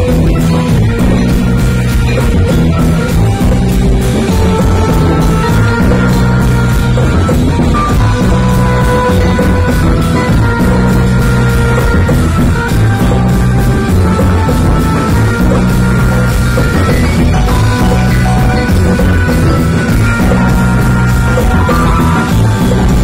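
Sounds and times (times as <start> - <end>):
bass notes and chords: 0.0 - 23.0
drum kit with cymbals: 0.0 - 23.0.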